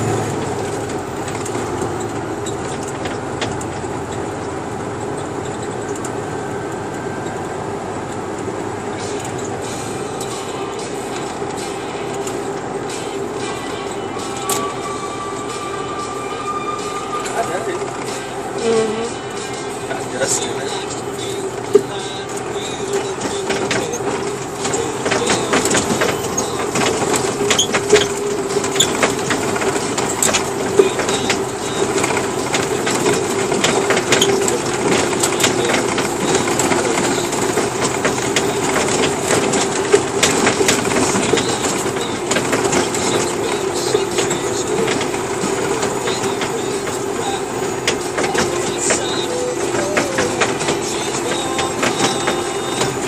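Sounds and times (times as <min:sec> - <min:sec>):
cab rattles: 0:00.0 - 0:53.0
truck engine drone: 0:00.0 - 0:53.0
tyres crackling on dirt: 0:00.0 - 0:53.0.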